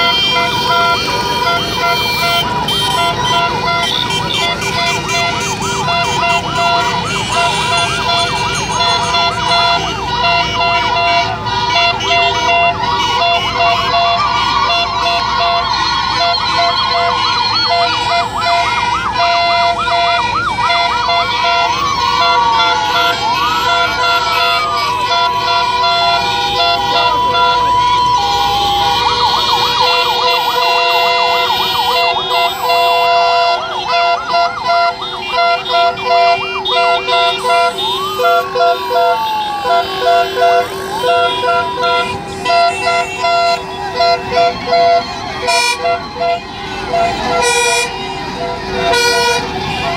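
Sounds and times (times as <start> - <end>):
emergency sirens wailing: 0.0 - 49.9
engines running: 0.0 - 49.9
vehicle horns: 0.0 - 49.9.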